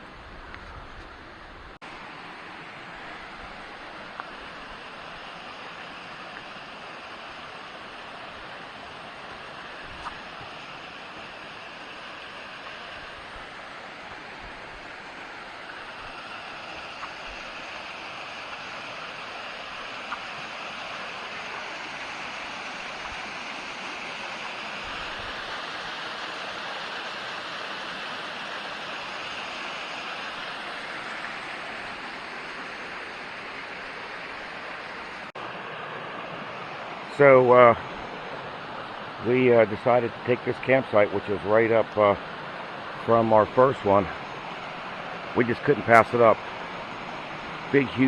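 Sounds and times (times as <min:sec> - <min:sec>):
creek rushing over rocks: 0:00.0 - 0:48.0.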